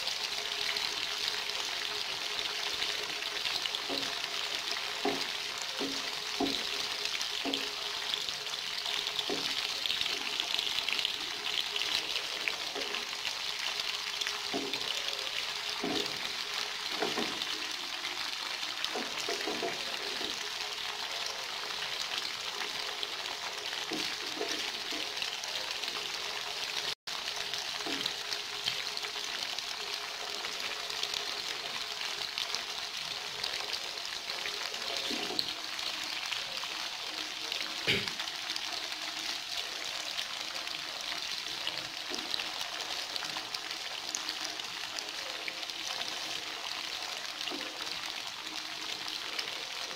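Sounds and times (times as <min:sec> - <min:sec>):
tofu sizzling in hot oil: 0:00.0 - 0:49.9.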